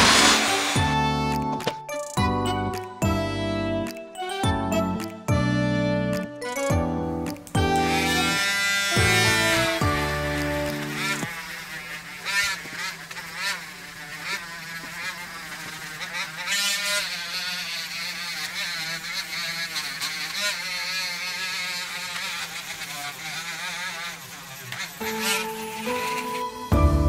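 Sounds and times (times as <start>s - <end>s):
rotary tool whine buffing wood: 0.0s - 27.0s.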